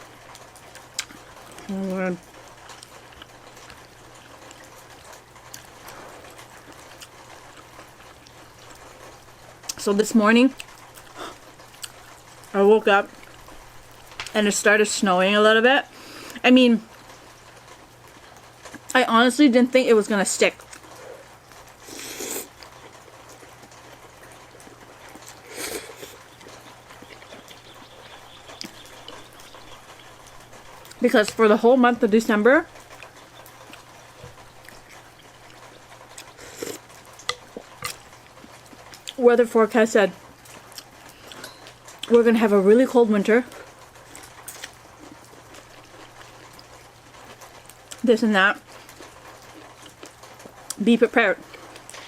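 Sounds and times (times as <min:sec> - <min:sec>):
quiet chewing: 0:00.0 - 0:09.8, 0:10.4 - 0:14.4, 0:15.9 - 0:19.0, 0:20.5 - 0:39.2, 0:40.2 - 0:42.2, 0:43.5 - 0:48.0, 0:48.6 - 0:50.8, 0:51.4 - 0:52.0
person eating noises: 0:00.0 - 0:14.6, 0:20.5 - 0:39.2, 0:40.2 - 0:42.3, 0:43.5 - 0:48.0, 0:48.6 - 0:50.8.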